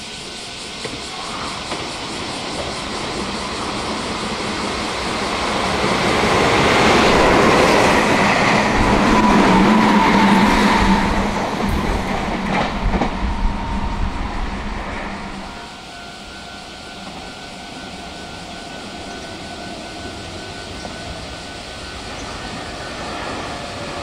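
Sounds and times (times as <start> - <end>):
electric train running past: 0.0 - 24.0.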